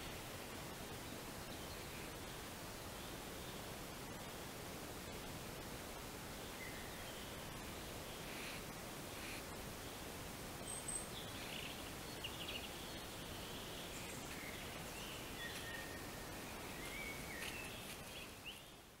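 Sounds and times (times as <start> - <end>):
steady background hiss: 0.0 - 19.0
small birds chirping: 0.9 - 4.4, 6.3 - 19.0.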